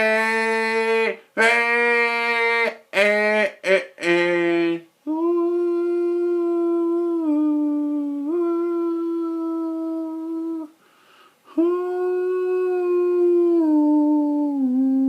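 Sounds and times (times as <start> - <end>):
person humming held notes: 0.0 - 10.8, 11.5 - 15.0.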